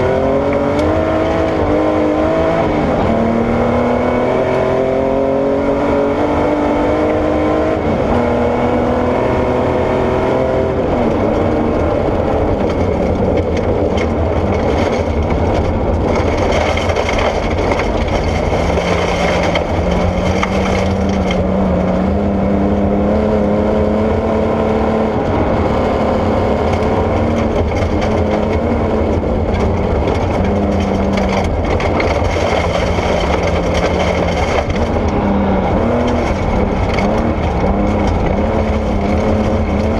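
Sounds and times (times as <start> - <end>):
gravel and tyre noise: 0.0 - 39.9
rally car engine driven hard: 0.0 - 39.9.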